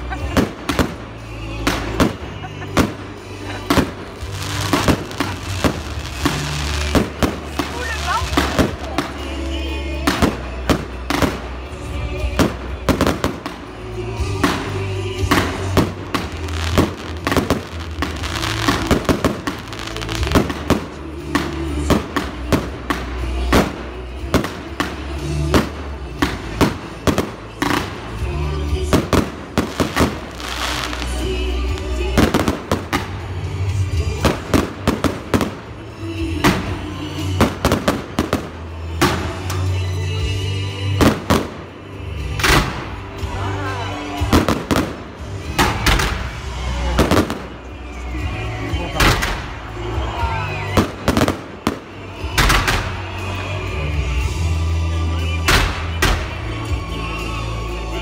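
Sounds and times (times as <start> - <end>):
background music with low tones: 0.0 - 58.0
fireworks bangs and crackles: 0.0 - 58.0.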